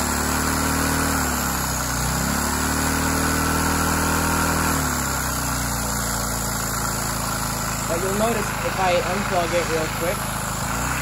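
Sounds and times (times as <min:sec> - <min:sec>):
vacuum engine running: 0:00.0 - 0:11.0.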